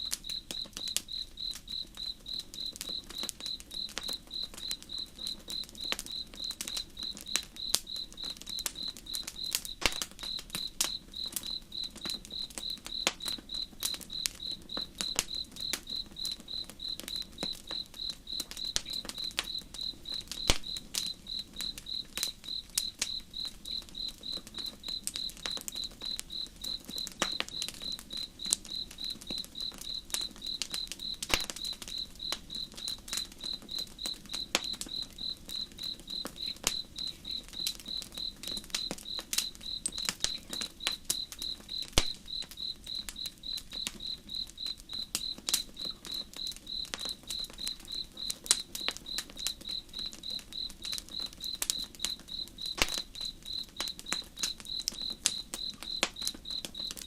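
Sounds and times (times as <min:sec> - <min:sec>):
campfire crackling: 0:00.0 - 0:57.0
cricket chirping: 0:00.0 - 0:57.0.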